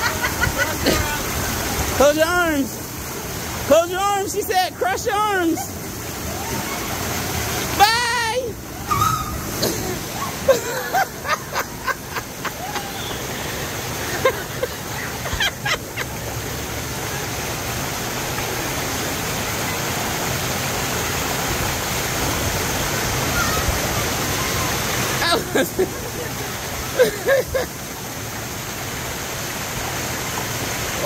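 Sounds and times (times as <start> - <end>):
water rushing down slides: 0.0 - 31.0.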